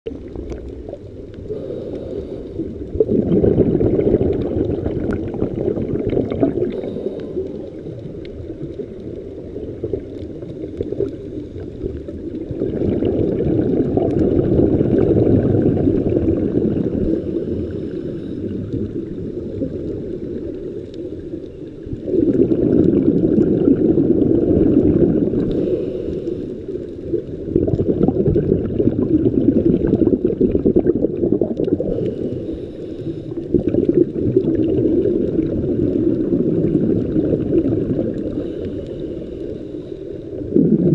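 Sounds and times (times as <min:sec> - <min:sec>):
muffled underwater bubbling: 0:00.1 - 0:40.9.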